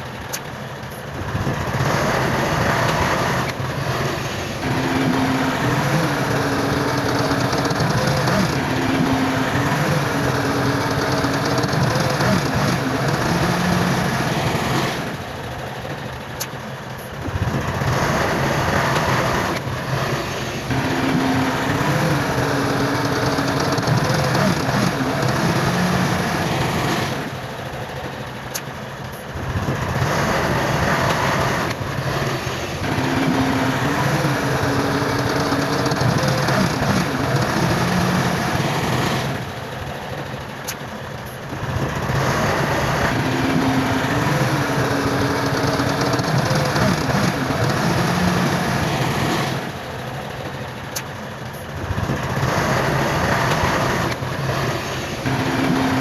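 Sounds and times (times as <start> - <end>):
heavy diesel engine working: 0.0 - 56.0.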